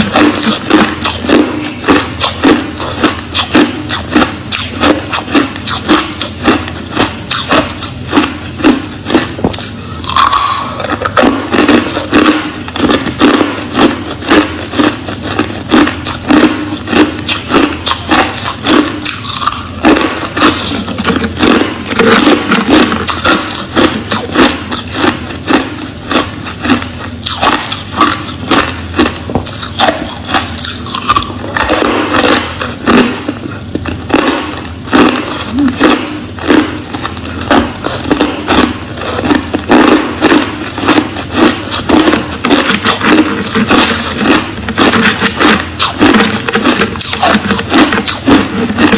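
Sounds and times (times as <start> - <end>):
chewing crushed ice: 0.0 - 48.9.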